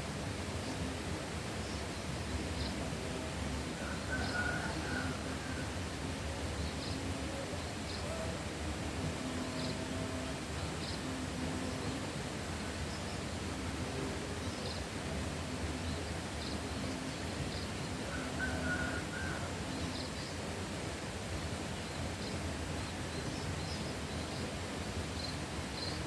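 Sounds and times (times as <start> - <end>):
wind through leaves: 0.0 - 26.0.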